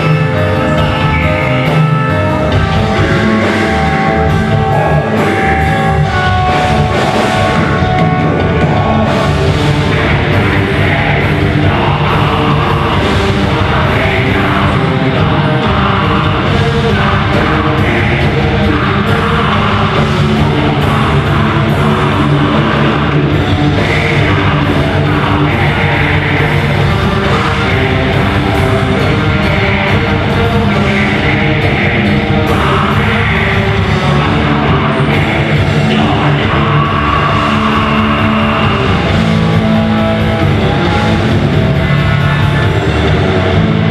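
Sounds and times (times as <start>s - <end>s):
bass guitar: 0.0s - 43.9s
distorted electric guitars: 0.0s - 43.9s
drums: 0.0s - 43.9s
person singing: 0.0s - 43.9s.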